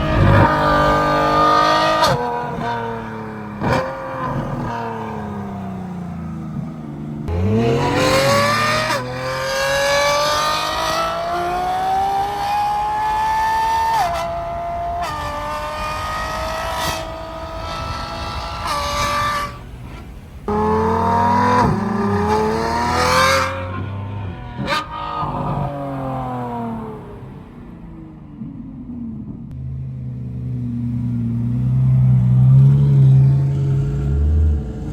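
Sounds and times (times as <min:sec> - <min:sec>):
sports car accelerating with upshifts: 0:00.0 - 0:34.9.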